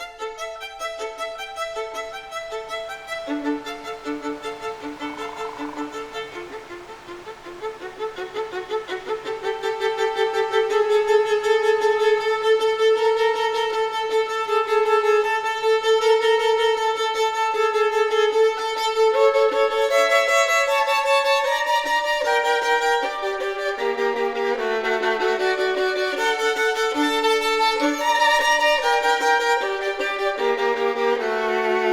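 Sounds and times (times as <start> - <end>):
solo violin: 0.0 - 31.9.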